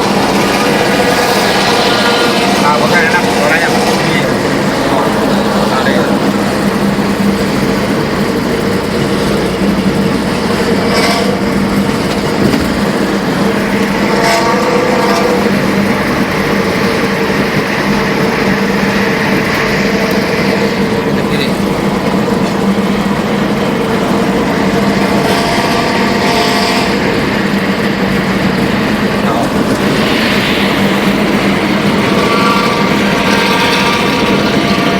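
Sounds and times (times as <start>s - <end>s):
bus engine droning: 0.0s - 34.9s.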